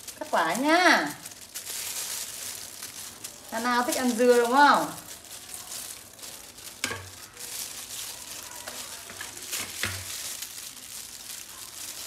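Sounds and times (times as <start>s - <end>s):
plastic gloves crinkling: 0.0s - 12.0s.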